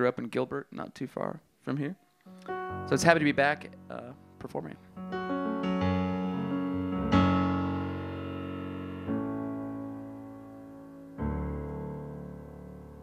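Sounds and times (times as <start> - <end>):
piano chords: 2.3 - 13.0.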